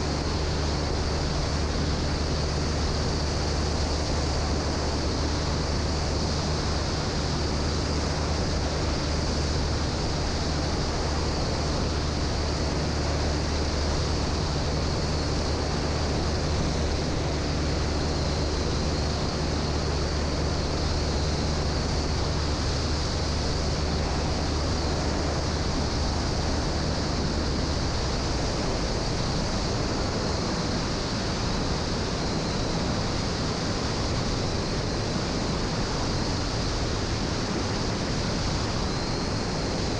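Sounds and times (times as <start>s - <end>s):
airplane engine droning: 0.0s - 39.9s
wind rushing over microphone: 0.0s - 39.9s.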